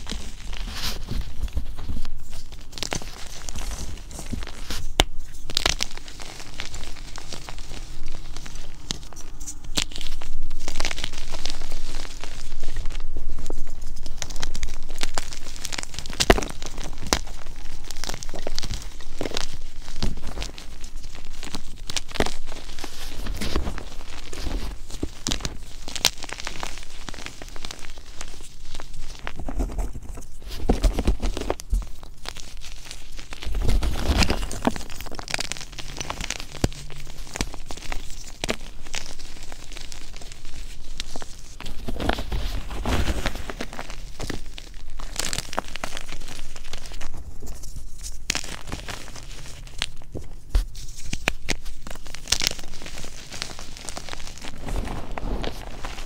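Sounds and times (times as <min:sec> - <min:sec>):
chalk crunching in hands: 0:00.0 - 0:56.0.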